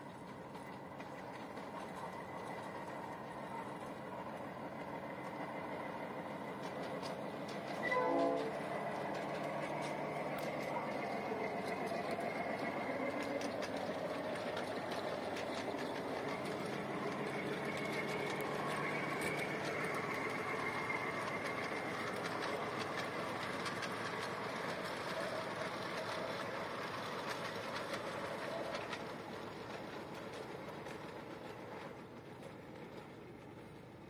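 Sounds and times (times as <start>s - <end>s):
miniature train wheels rolling: 0.0s - 34.0s
clicks over rail joints: 6.3s - 34.0s.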